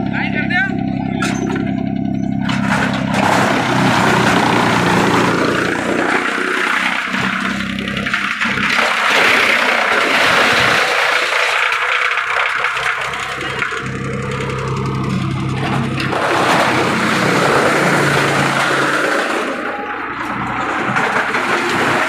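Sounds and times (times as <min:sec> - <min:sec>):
loud rough noise: 0:00.0 - 0:22.0
wood chipper running: 0:00.0 - 0:22.0.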